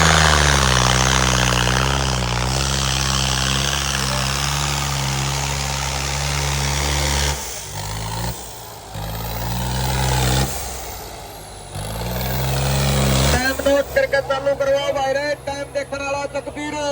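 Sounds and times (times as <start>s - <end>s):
tractor diesel engine under load: 0.0s - 16.9s.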